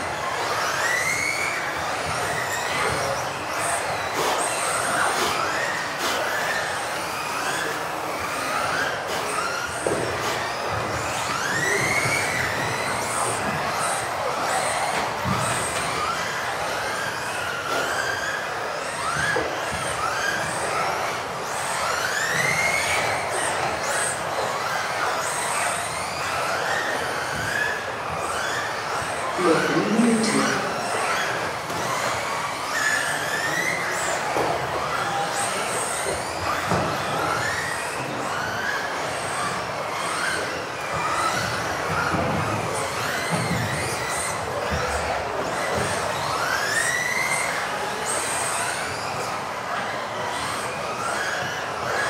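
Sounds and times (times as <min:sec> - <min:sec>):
rc buggy motors whining: 0:00.0 - 0:52.0.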